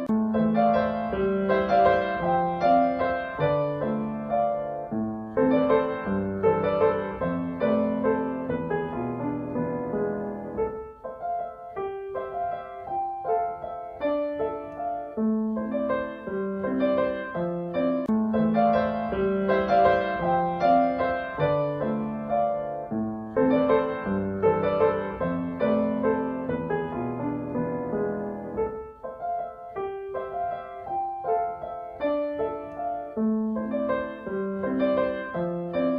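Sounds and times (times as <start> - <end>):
slow piano music: 0.0 - 35.9.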